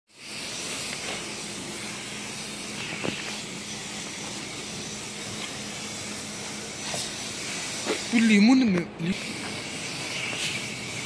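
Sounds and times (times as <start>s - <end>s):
pressure washer spraying water: 0.1s - 11.0s.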